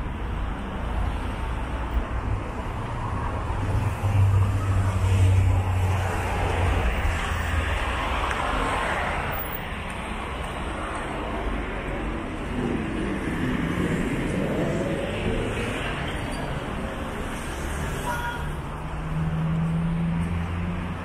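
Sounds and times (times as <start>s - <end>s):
low traffic rumble: 0.0s - 21.0s
cars driving past: 1.1s - 21.0s.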